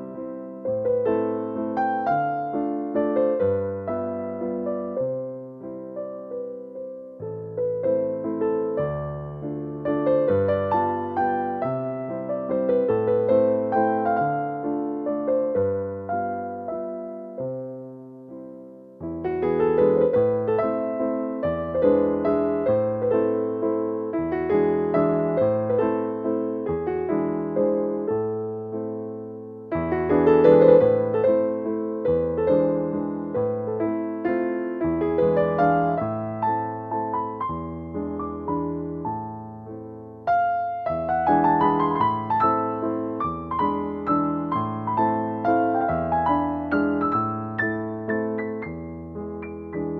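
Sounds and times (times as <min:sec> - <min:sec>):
slow solo piano: 0:00.0 - 0:49.9.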